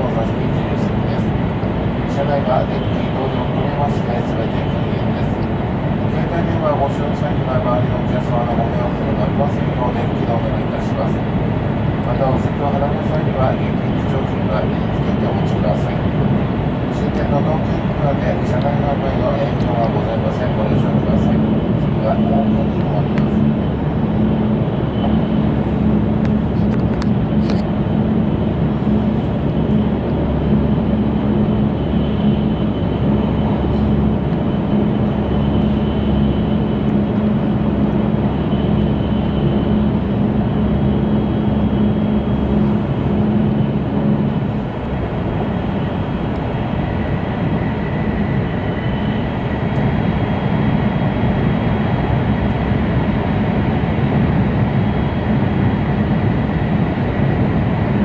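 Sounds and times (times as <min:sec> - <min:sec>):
faint high whine: 0:00.0 - 0:58.0
low hum: 0:00.0 - 0:58.0
train running rumble: 0:00.0 - 0:58.0.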